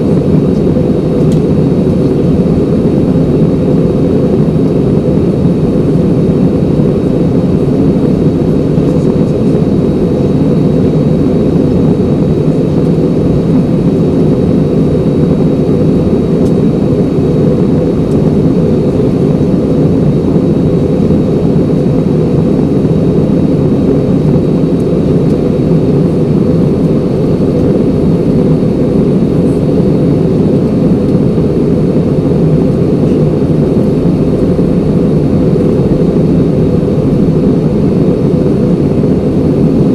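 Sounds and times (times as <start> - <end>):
faint high whine: 0.0 - 39.9
jet airliner cabin noise: 0.0 - 39.9.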